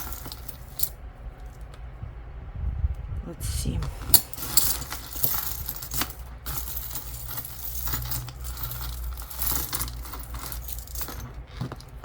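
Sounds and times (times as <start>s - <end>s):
metal jewelry clinking and jangling: 0.0s - 1.6s, 4.0s - 12.0s.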